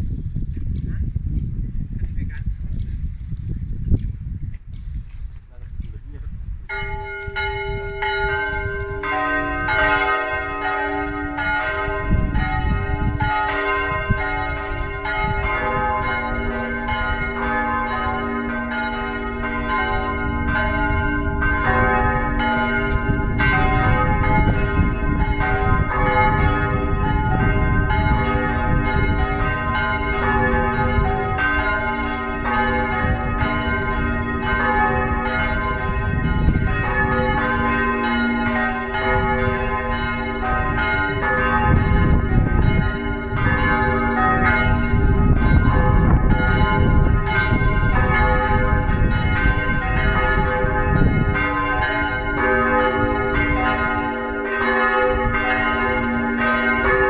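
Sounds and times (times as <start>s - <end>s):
church bells pealing: 6.6s - 57.0s.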